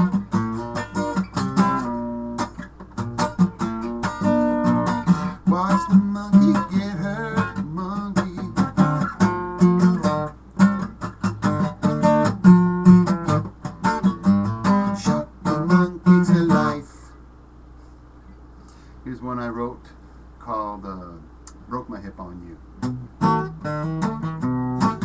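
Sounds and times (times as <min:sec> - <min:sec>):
acoustic guitar strumming chords: 0:00.0 - 0:17.1, 0:21.7 - 0:25.0.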